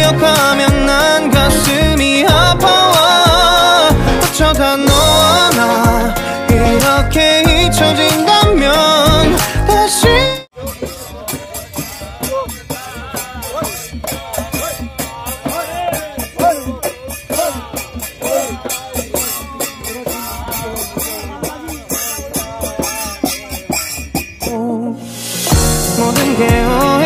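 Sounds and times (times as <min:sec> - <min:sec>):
men singing together: 0:00.0 - 0:23.8, 0:24.4 - 0:27.0
drums beating: 0:00.0 - 0:27.0.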